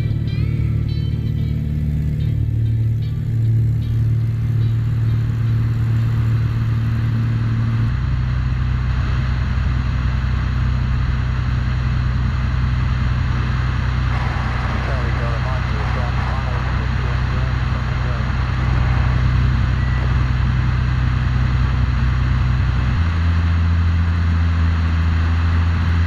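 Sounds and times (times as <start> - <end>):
propeller aircraft engine droning: 0.0 - 26.0.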